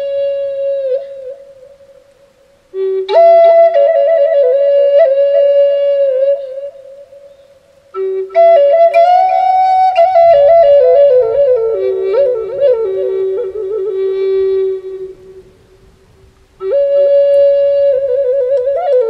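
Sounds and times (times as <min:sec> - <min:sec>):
flute playing slow melody: 0:00.0 - 0:19.0.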